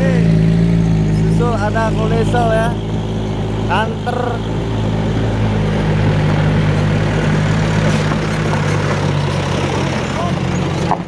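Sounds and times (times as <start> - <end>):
truck diesel engine under load: 0.0 - 11.0.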